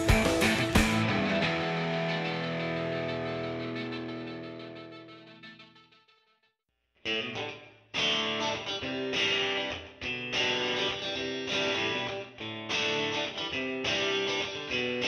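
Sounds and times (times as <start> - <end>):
instrumental music with strummed guitar: 0.0 - 6.1, 7.0 - 15.0.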